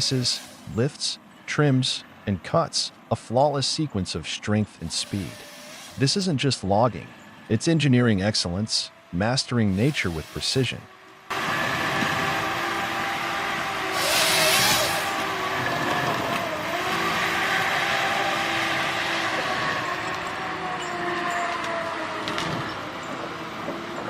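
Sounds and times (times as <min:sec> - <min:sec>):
forest harvester engine and hydraulics: 0:00.0 - 0:24.0.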